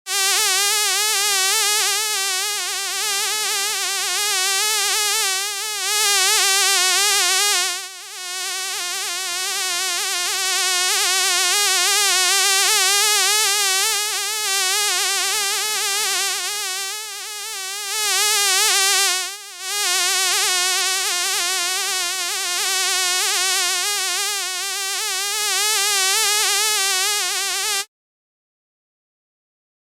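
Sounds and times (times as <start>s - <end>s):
fly buzzing: 0.1s - 27.9s.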